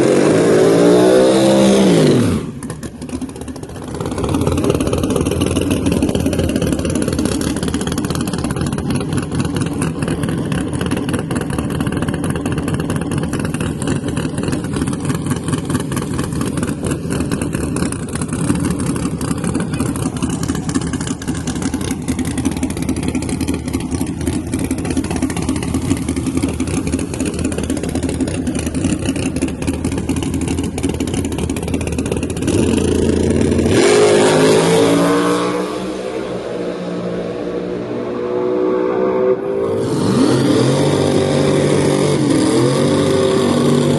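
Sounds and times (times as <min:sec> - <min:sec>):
drag car engine rumbling: 0:00.0 - 0:43.9.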